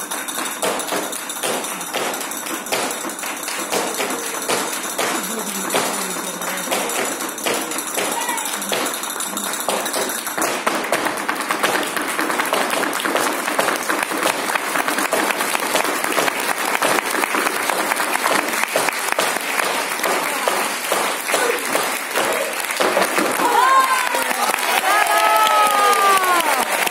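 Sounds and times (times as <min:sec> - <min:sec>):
audience applauding: 0:00.0 - 0:26.9.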